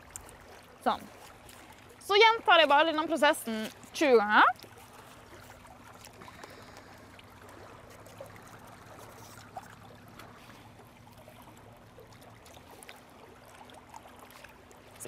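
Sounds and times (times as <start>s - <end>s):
low steady hum: 0.0s - 15.0s
small waves lapping on rocks: 0.0s - 15.0s.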